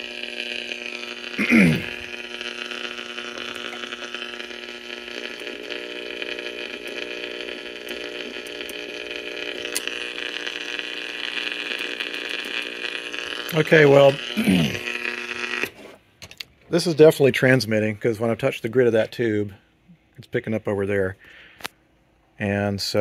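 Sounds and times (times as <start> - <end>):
electrical hum and hiss: 0.0 - 23.0.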